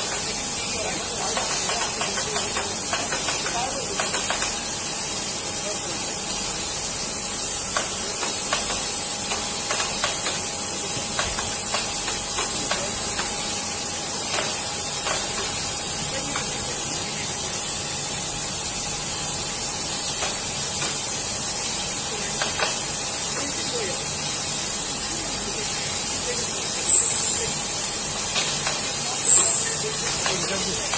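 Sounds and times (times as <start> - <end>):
loud high-pitched hiss: 0.0 - 30.9.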